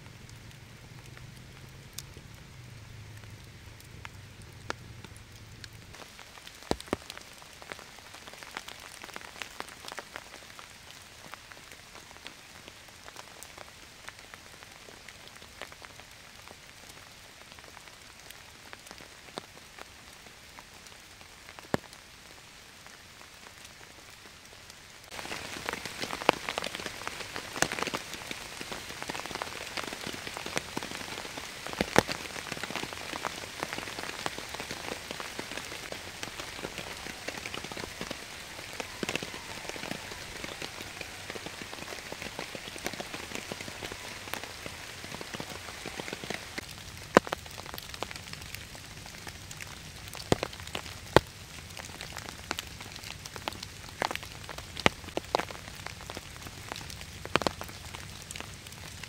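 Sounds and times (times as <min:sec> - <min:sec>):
rain on a tarp: 0:00.0 - 0:59.0
steady rain: 0:00.0 - 0:59.0.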